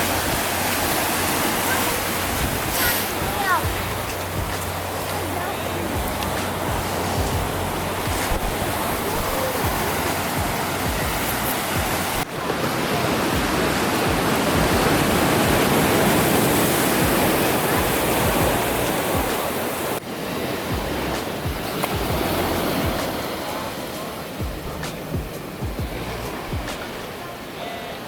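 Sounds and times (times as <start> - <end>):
ocean surf washing onto beach: 0.0 - 28.0.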